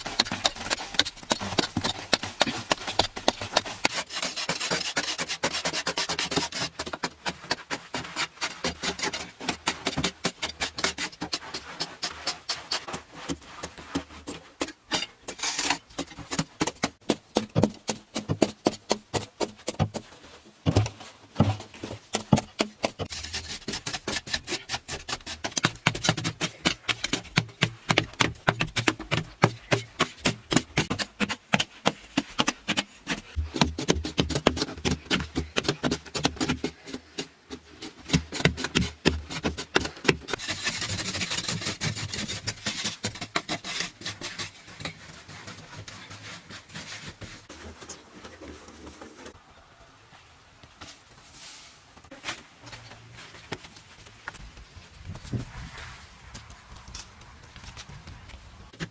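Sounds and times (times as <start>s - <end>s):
hand tools scraping and striking: 0.0s - 49.4s.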